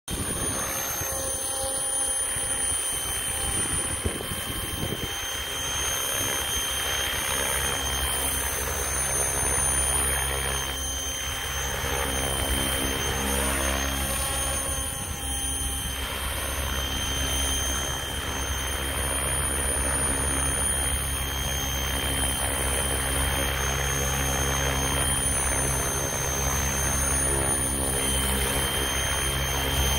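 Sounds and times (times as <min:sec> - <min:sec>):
motor and gears whining: 0:00.1 - 0:29.9.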